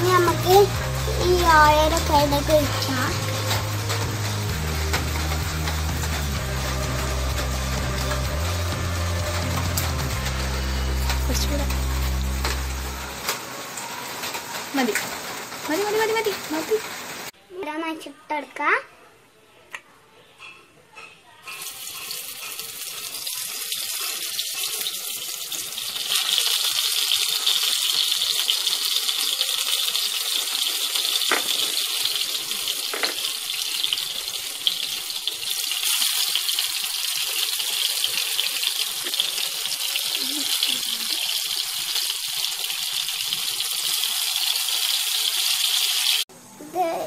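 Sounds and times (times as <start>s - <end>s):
fruit sizzling in hot oil: 0.0s - 17.4s, 21.5s - 47.0s.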